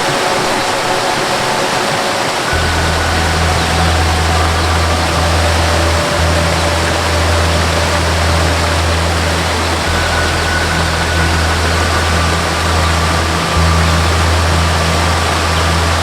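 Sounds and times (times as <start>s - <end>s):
soft melody of long notes: 0.0s - 16.0s
waterfall rushing: 0.0s - 16.0s
deep low drone: 0.1s - 16.0s.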